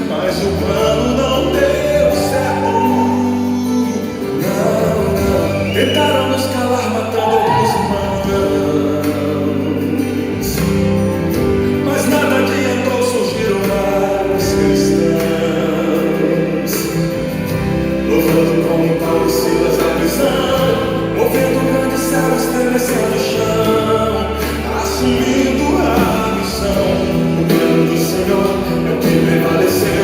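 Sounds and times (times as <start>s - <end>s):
full band playing: 0.0s - 30.0s
gospel singing and choir: 0.0s - 30.0s.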